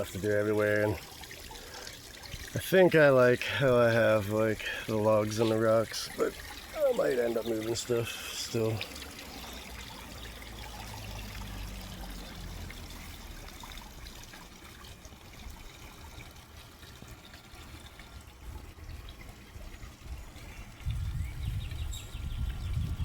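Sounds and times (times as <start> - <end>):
water trickling into pond: 0.0 - 23.0.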